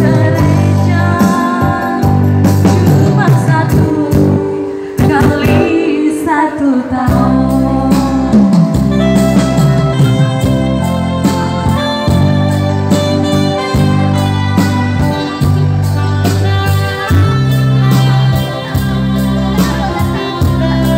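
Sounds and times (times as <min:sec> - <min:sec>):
electronic keyboard through pa: 0:00.0 - 0:20.9.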